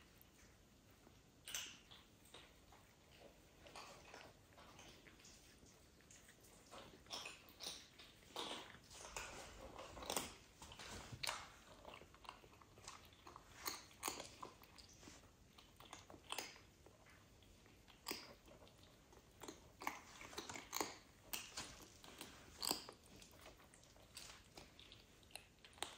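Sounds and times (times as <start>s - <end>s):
cats licking fur: 0.0s - 25.9s.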